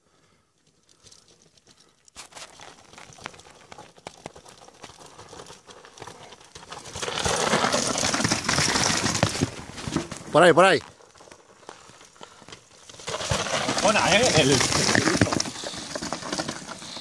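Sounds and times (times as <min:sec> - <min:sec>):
bike tyres crunching over gravel: 0:01.3 - 0:17.0.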